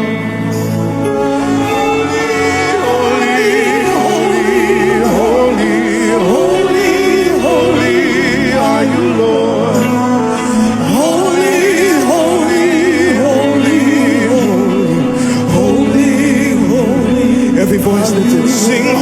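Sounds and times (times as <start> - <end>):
sustained chords: 0.0 - 19.0.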